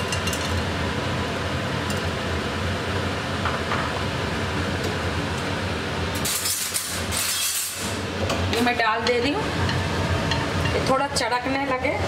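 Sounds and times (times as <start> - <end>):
fan humming and whooshing: 0.0 - 12.0.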